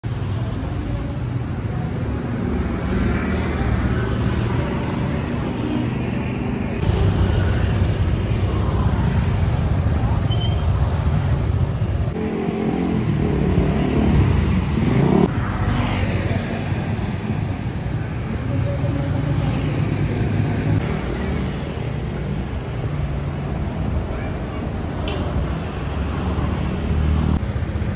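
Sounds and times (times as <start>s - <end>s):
motorcycles and cars passing: 0.1s - 27.9s.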